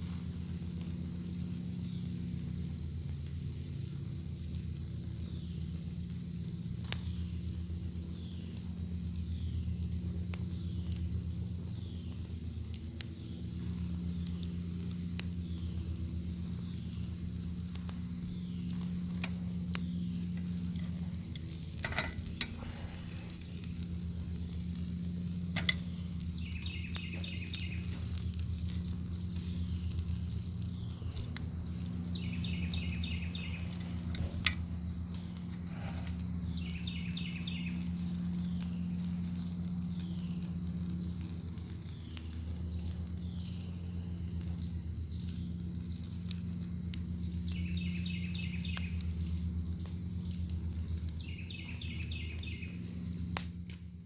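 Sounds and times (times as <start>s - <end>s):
bacon sizzling: 0.0s - 53.6s
insect chirps: 0.0s - 54.0s
low steady hum: 0.0s - 54.0s
wood fire crackling pops: 0.0s - 54.0s.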